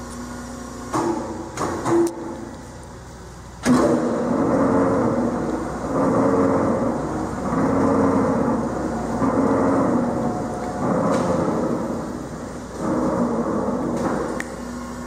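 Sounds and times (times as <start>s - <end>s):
mixer machine humming: 0.0s - 15.0s.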